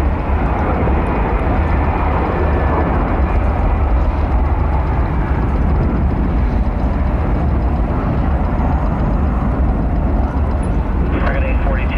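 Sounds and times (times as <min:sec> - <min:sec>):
jet airliner landing: 0:00.0 - 0:11.9.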